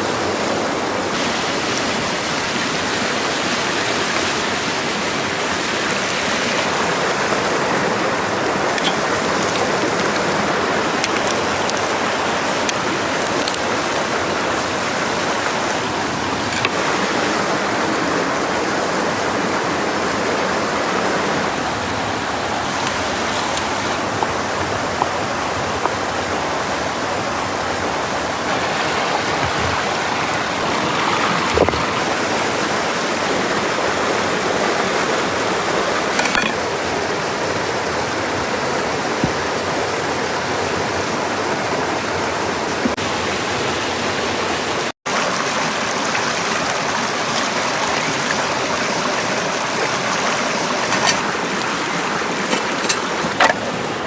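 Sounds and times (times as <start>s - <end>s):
flowing stream rushing: 0.0s - 54.0s.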